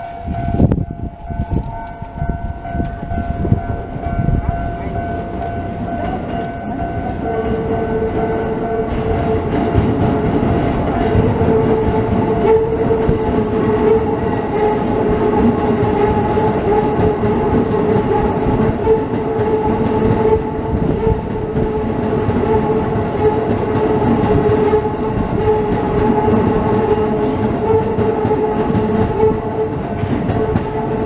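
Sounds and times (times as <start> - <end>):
level crossing warning bell: 0.0 - 31.0
train wheels clattering over joints: 0.0 - 31.0.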